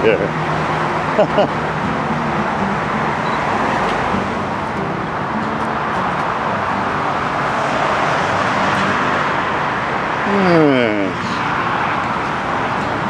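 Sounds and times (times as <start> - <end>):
faint engine hum: 0.0 - 13.0
heavy highway traffic: 0.0 - 13.0.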